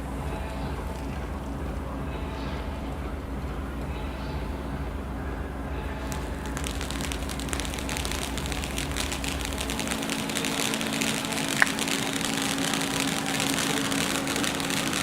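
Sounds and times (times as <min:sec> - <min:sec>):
firework fountain hissing and crackling: 0:00.0 - 0:15.0
steady low hum: 0:00.0 - 0:15.0.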